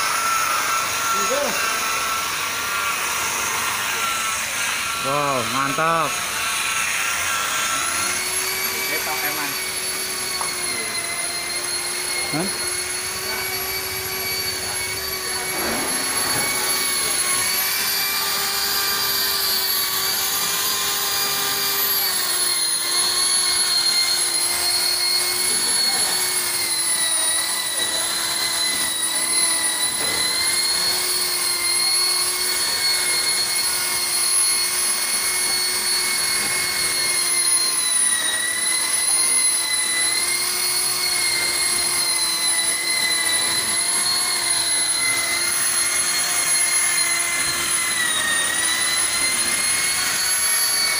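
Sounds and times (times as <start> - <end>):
car polisher motor whining: 0.0 - 50.9.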